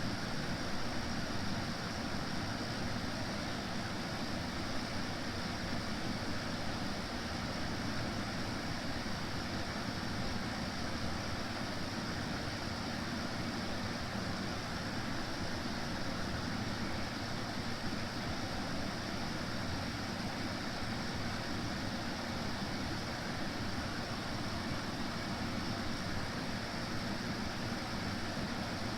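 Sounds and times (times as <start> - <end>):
air conditioner fan rushing: 0.0 - 28.9.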